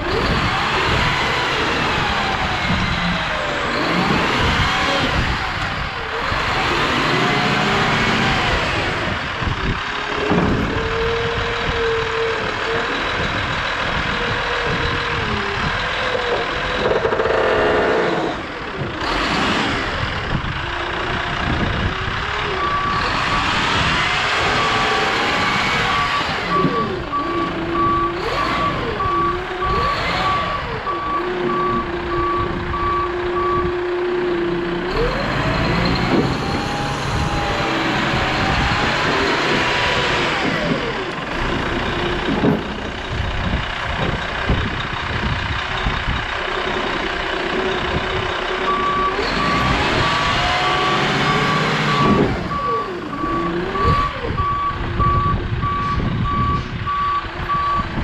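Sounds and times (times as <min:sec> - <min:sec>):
reversing alarm beeping: 0:00.0 - 0:18.5, 0:21.0 - 0:41.2, 0:47.6 - 0:58.0
skid-steer loader engine revving: 0:00.0 - 0:58.0.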